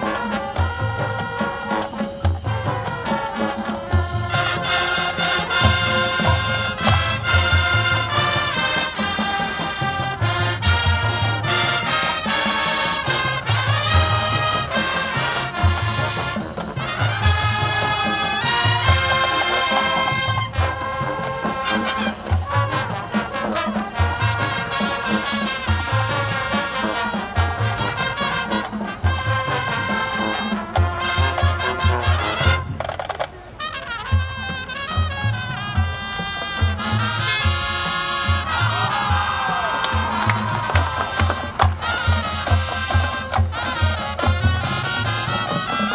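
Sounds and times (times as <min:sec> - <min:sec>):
marching band playing swing tune: 0:00.0 - 0:45.9.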